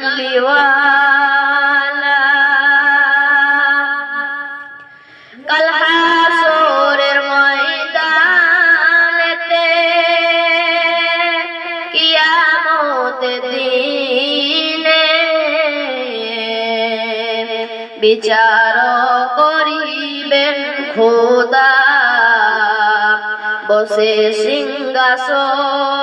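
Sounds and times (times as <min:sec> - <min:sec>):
boy singing devotional song: 0:00.0 - 0:26.0.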